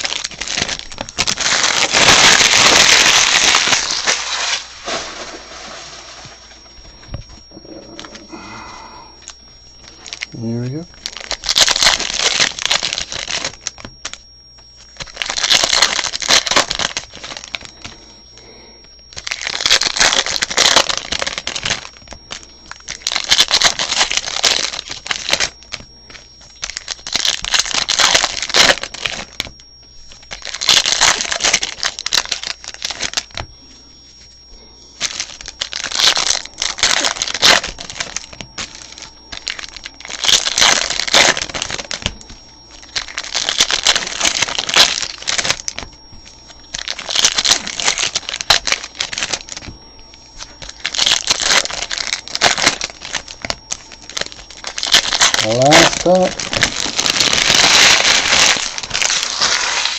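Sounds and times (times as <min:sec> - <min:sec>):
card pack wrappers tearing: 0:00.0 - 0:06.4, 0:09.2 - 0:10.3, 0:10.9 - 0:14.2, 0:14.8 - 0:18.0, 0:19.1 - 0:33.5, 0:35.0 - 0:59.9.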